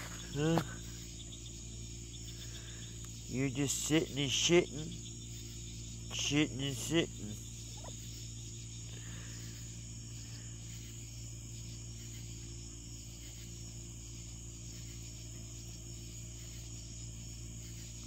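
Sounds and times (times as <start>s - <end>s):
constant low hum: 0.0s - 18.0s
crickets and insects chirping: 0.0s - 18.0s.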